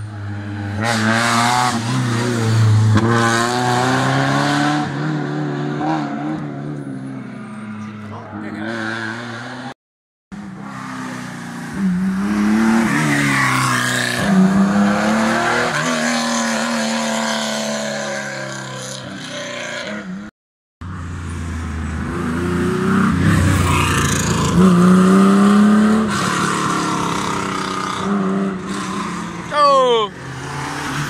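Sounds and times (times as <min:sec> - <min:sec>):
rally cars at full throttle passing: 0:00.0 - 0:09.8, 0:10.4 - 0:31.0.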